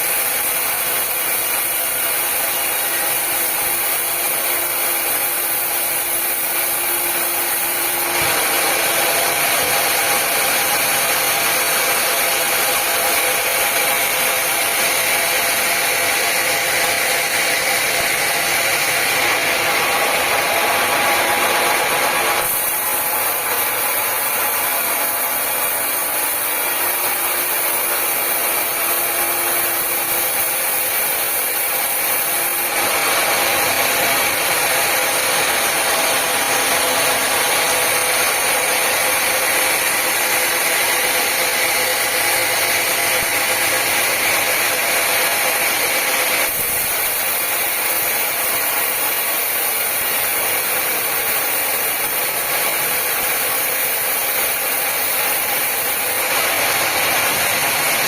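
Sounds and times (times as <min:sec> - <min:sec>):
power saw cutting wood: 0:00.0 - 0:58.0.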